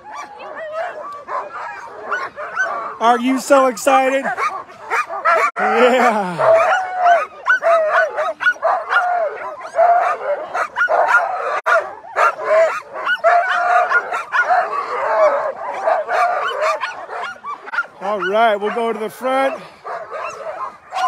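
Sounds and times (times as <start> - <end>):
dogs barking and yelping: 0.0 - 21.0.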